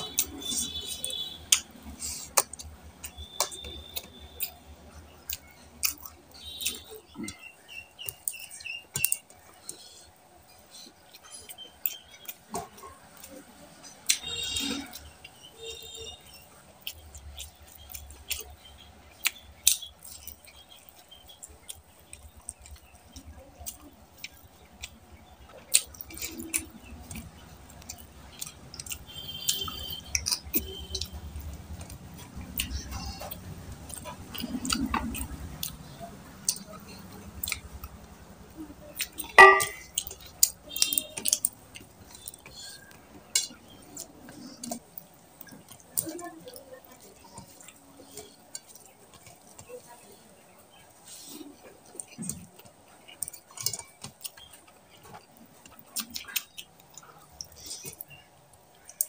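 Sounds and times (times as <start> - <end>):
chewing and lip-smacking: 0.0 - 59.0.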